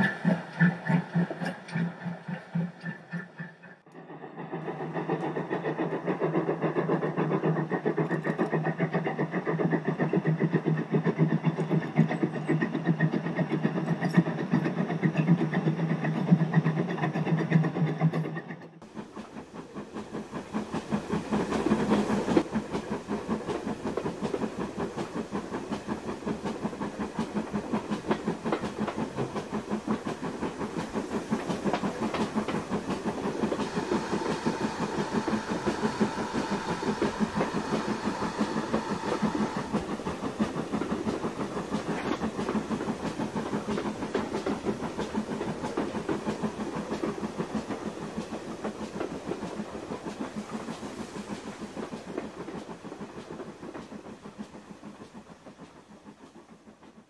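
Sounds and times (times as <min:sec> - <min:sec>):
steam locomotive chuffing: 0:00.0 - 0:57.0
wheels clicking over rail joints: 0:05.0 - 0:50.8.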